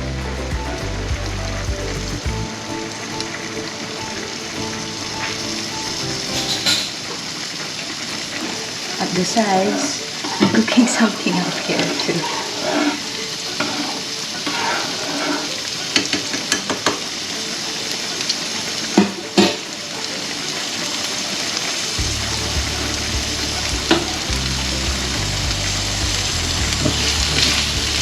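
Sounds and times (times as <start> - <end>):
onions sizzling in a frying pan: 4.6 - 28.0.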